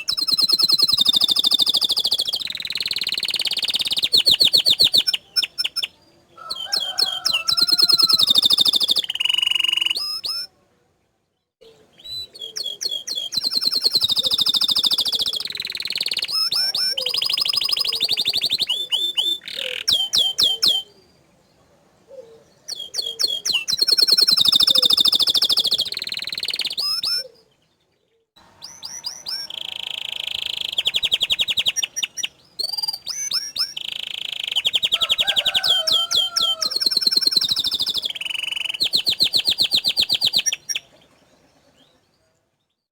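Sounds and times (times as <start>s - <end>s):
canary singing trills: 0.0s - 10.6s, 11.6s - 21.3s, 22.0s - 42.9s.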